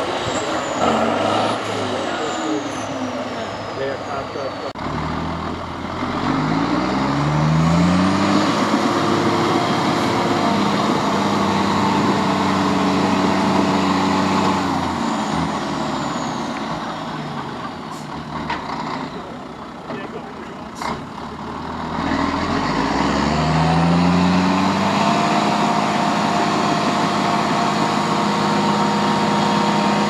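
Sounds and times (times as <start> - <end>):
diesel truck engine revving: 0.0 - 30.0.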